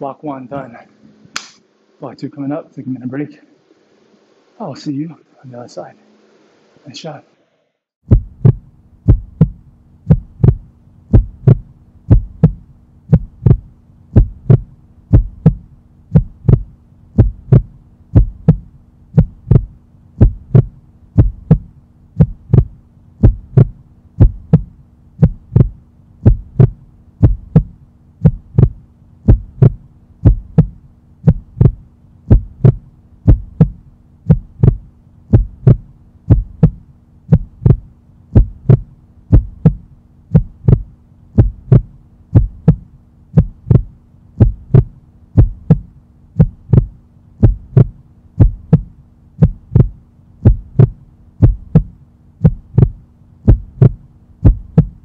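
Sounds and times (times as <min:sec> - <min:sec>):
faint steady hum: 0:00.0 - 0:55.0
heartbeat thumps: 0:08.0 - 0:55.0.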